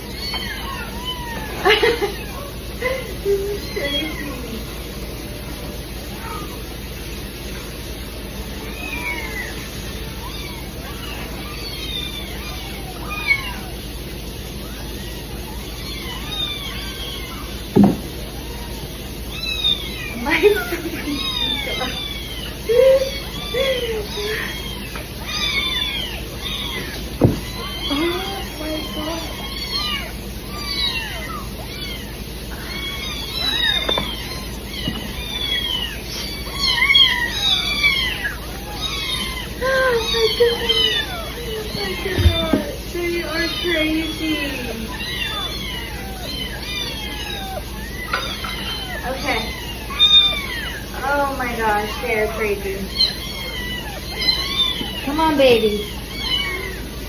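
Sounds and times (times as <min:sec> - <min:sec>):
many cats meowing: 0:00.0 - 0:57.0.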